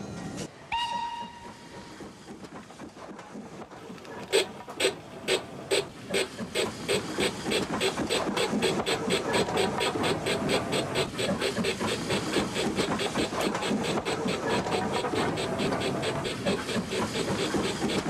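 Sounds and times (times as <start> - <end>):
model steam locomotive chuffing: 0.7 - 18.0.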